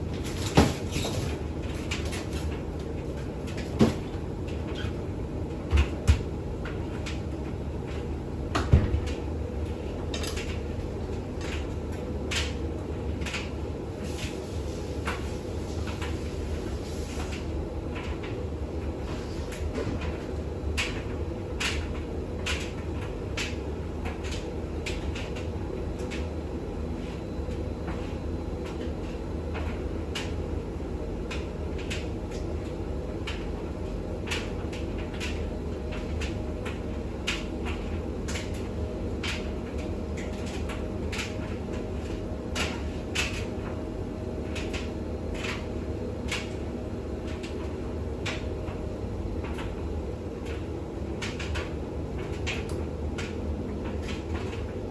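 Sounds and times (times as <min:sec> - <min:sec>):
washing machine spinning: 0:00.0 - 0:54.9.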